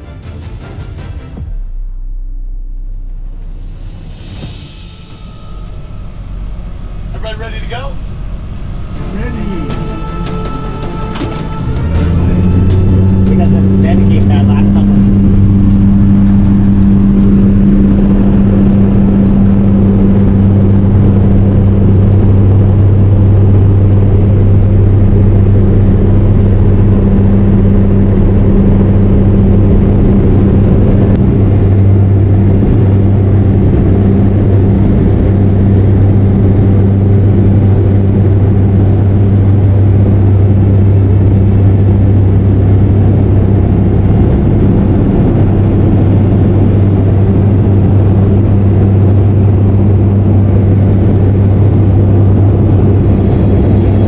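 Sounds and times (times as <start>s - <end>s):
turboprop engine droning: 1.4s - 54.0s.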